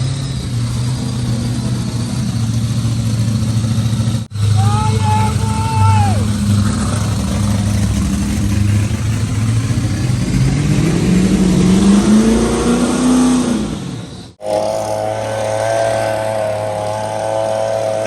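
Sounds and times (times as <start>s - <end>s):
engine holding steady high note: 0.0s - 18.0s
race car engine revving: 0.0s - 18.0s.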